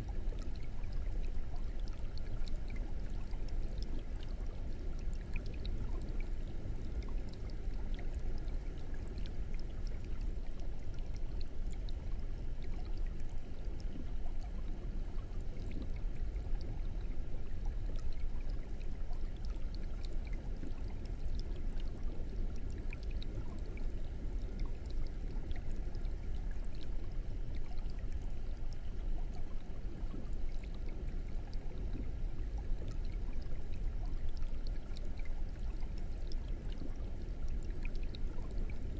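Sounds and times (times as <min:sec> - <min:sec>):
aquarium air bubbler bubbling: 0:00.0 - 0:38.9.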